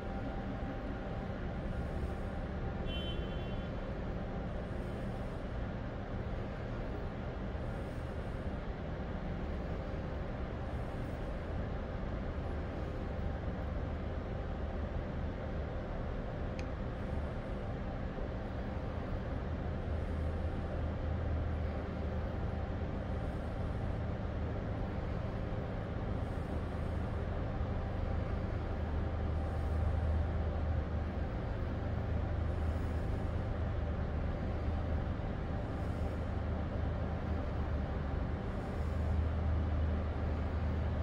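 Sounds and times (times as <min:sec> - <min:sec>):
faint hum: 0:00.0 - 0:41.0.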